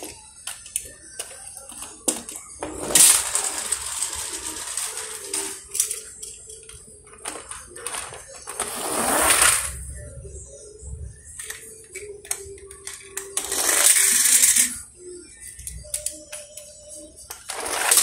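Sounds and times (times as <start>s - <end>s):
toy car wheels rolling: 0.0s - 9.8s, 11.4s - 16.7s, 17.3s - 18.0s.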